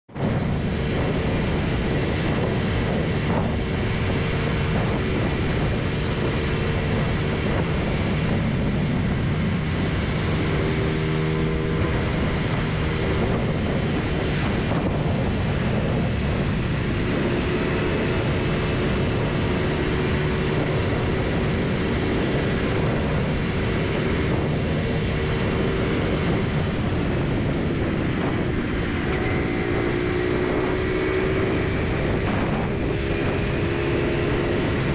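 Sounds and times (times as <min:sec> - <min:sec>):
road and wind noise: 0:00.0 - 0:34.9
motorcycle engine running: 0:00.2 - 0:34.9.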